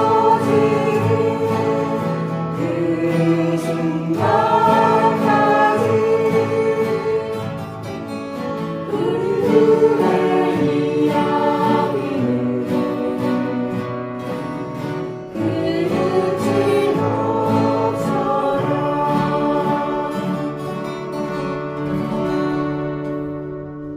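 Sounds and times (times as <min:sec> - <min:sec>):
group singing in unison: 0:00.0 - 0:21.4
strummed acoustic guitars: 0:00.0 - 0:23.9.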